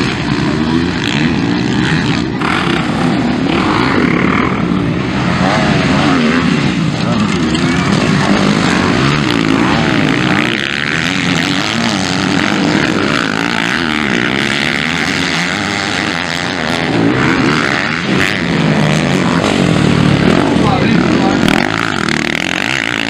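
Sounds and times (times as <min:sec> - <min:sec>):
motocross bike engines revving: 0:00.0 - 0:23.0.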